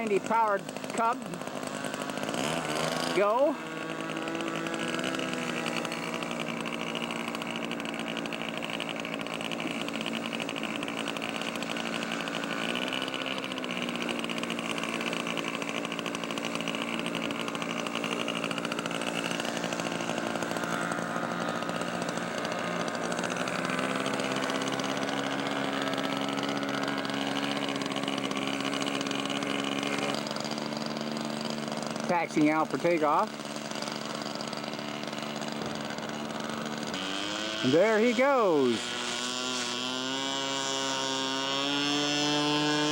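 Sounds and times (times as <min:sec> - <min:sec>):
model airplane engine running: 0:00.0 - 0:42.9.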